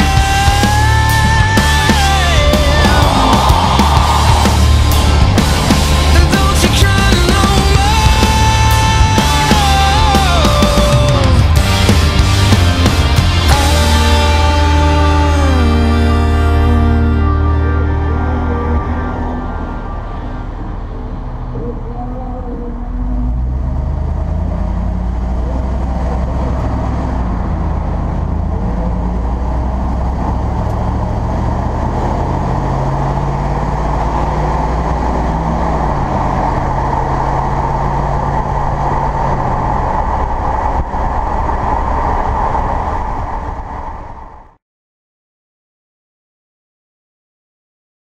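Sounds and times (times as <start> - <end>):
pickup truck engine driving: 0.0 - 44.6
wind and road noise: 0.0 - 44.6.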